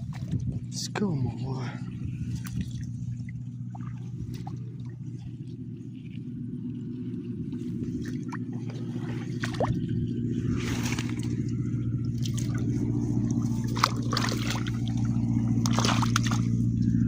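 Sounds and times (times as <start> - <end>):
low steady hum: 0.0 - 17.0
hands splashing in muddy water: 2.2 - 17.0.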